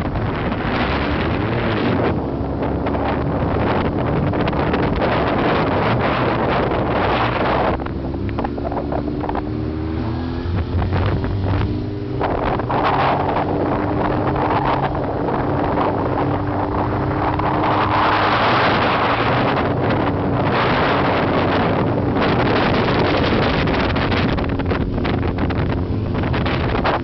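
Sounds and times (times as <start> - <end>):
motorcycle engine: 0.0 - 27.0
wind noise on microphone: 0.0 - 27.0.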